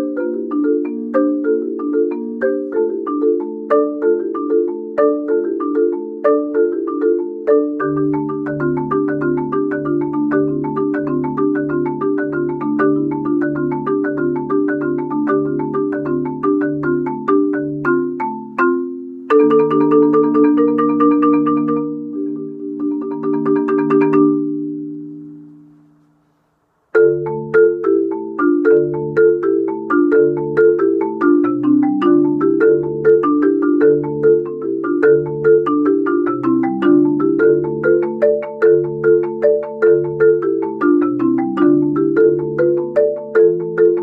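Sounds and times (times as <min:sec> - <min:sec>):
marimba played with mallets: 0:00.0 - 0:26.2, 0:26.9 - 0:44.0.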